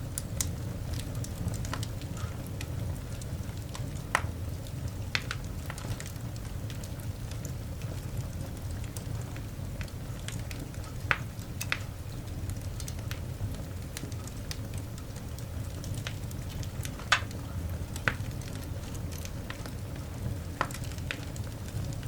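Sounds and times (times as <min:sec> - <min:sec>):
coal fire crackling: 0:00.0 - 0:22.0
fire popping: 0:00.0 - 0:22.0.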